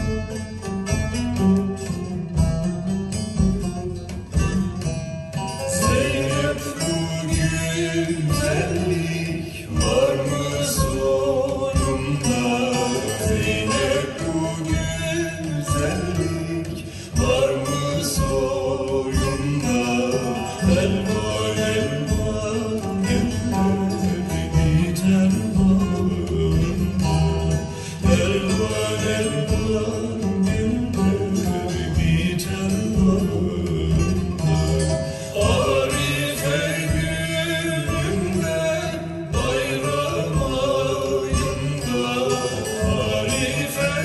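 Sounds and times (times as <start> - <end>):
folk music from a vinyl record: 0.0 - 44.0
plucked string instruments: 0.0 - 44.0
person singing: 5.7 - 44.0.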